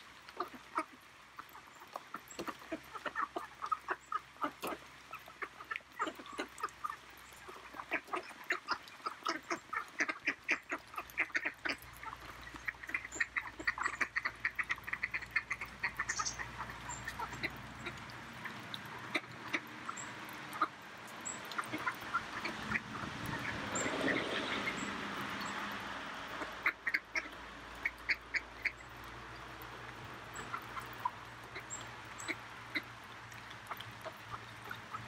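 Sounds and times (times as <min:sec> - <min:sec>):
ducks quacking: 0:00.3 - 0:28.9, 0:30.3 - 0:32.9.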